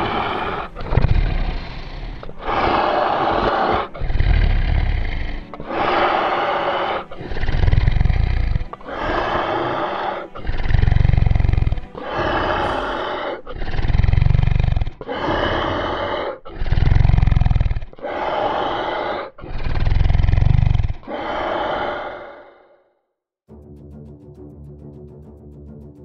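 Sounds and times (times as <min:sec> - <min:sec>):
dinosaur roars and growls: 0:00.0 - 0:22.8.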